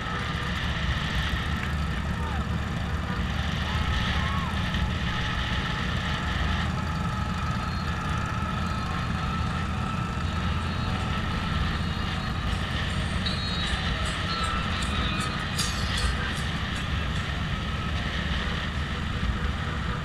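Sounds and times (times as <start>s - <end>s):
motorcycle engines rumbling: 0.0s - 20.0s.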